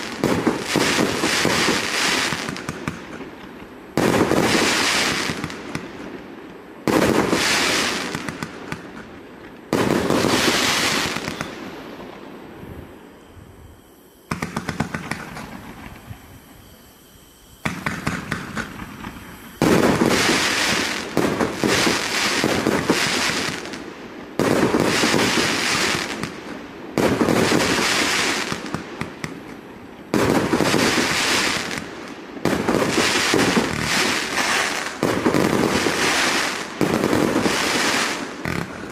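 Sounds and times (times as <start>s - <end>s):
fireworks bursts with crackling: 0.0s - 38.9s.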